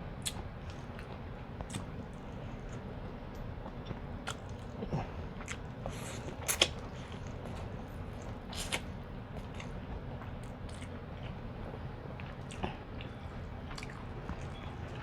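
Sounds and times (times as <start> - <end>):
wet chewing: 0.2 - 2.9, 3.6 - 11.4, 12.2 - 15.0.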